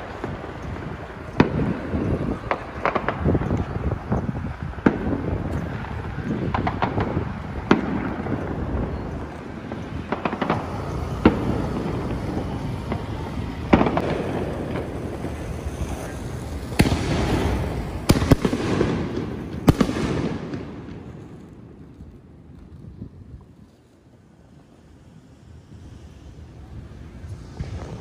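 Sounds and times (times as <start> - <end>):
fireworks bangs: 0.0 - 24.0, 24.6 - 28.0.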